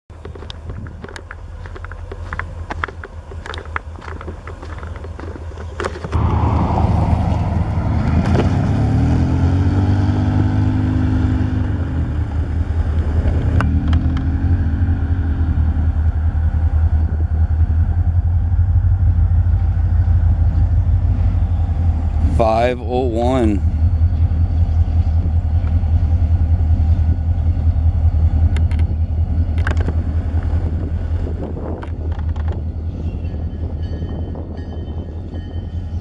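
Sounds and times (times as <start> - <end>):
diesel locomotive engine rumbling: 0.1 - 36.0.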